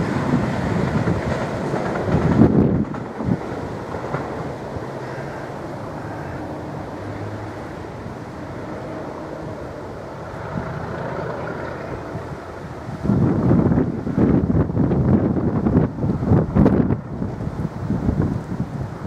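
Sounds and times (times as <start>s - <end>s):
diesel locomotive engine drone: 0.0s - 19.0s
wind buffeting microphone: 0.0s - 19.0s.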